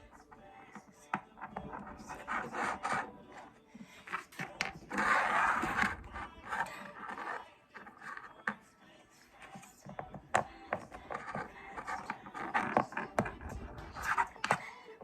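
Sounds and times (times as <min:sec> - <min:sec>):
rubbing and scraping: 0:00.0 - 0:14.6.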